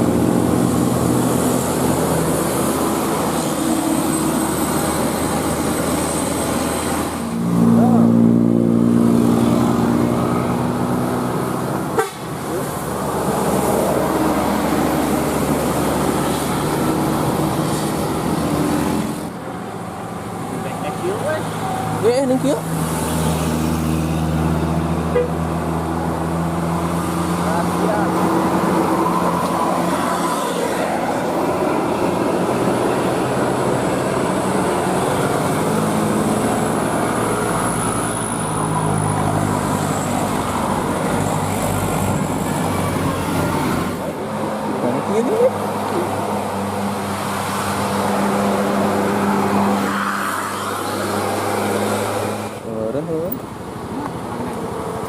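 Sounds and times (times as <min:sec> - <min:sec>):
bus passing close by: 0:00.0 - 0:55.0.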